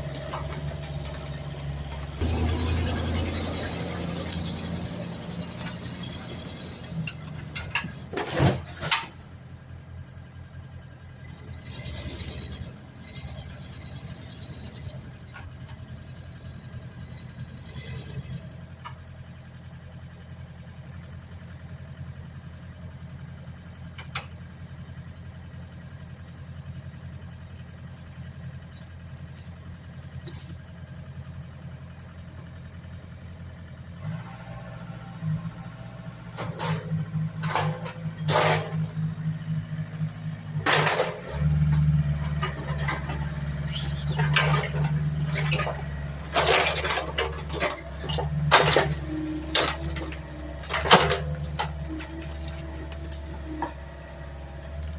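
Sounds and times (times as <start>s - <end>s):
engine running at low speed: 0.0s - 54.9s.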